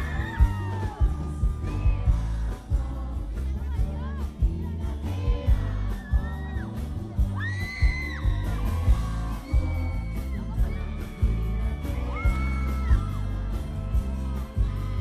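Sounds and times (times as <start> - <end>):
crowd yelling and cheering: 0.0 - 15.0
drum beat: 0.0 - 15.0
live pop music: 0.0 - 15.0.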